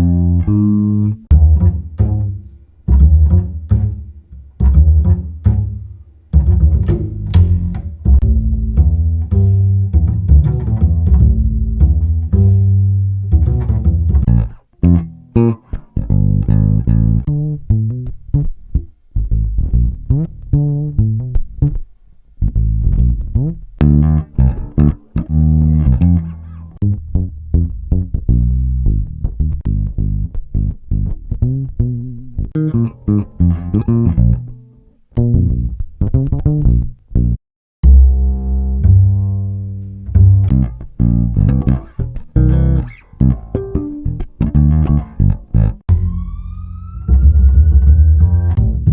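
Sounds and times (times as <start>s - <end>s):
plucked bass notes: 0.0s - 46.4s, 47.2s - 48.9s.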